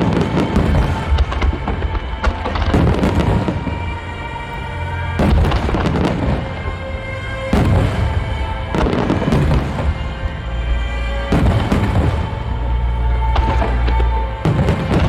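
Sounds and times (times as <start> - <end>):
fireworks booming and crackling: 0.0 - 15.0
music with long held notes: 0.0 - 15.0.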